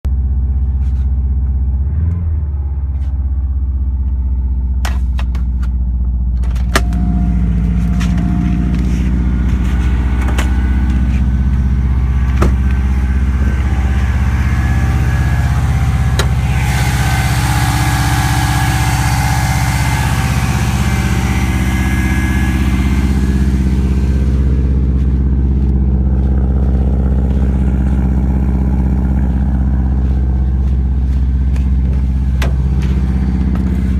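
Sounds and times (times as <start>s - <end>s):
engine running: 0.0s - 33.9s
engine ticking: 3.2s - 33.9s.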